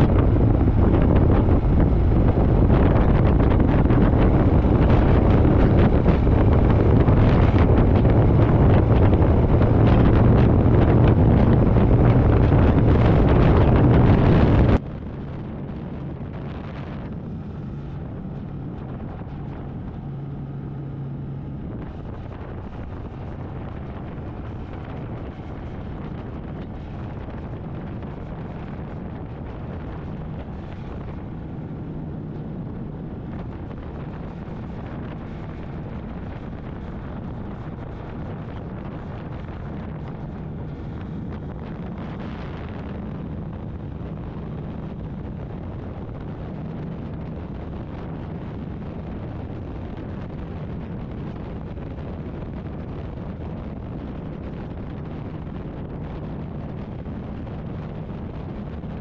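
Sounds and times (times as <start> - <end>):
motorcycle engine cruising: 0.0 - 59.0
wind rush on microphone: 0.0 - 59.0.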